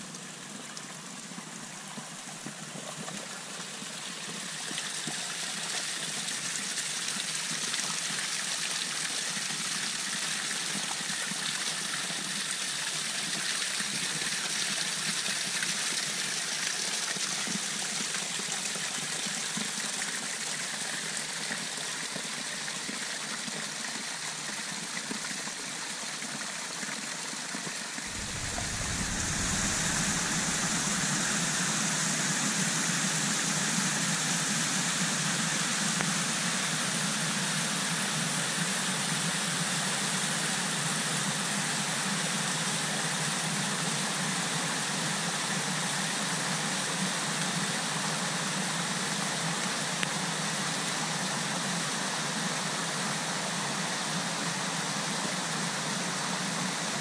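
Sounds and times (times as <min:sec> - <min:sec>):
waterfall splashing over rock: 0:00.2 - 0:56.2.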